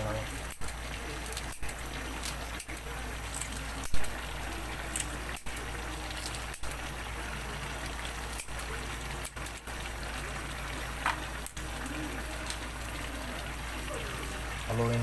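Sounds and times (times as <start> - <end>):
sauce bubbling in a pan: 0.0 - 15.0.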